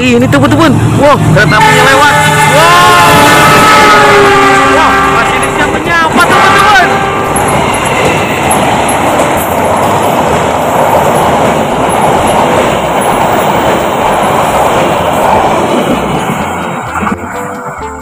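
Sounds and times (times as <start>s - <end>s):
passenger train passing at speed: 0.0s - 18.0s.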